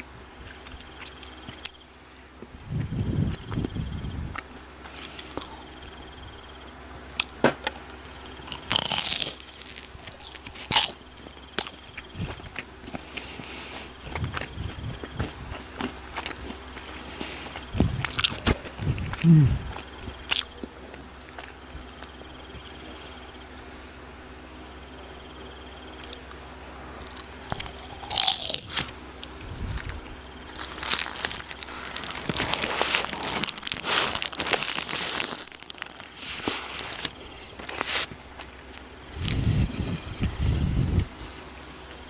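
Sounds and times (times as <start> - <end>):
crunching and chewing fried food: 0.0 - 42.0.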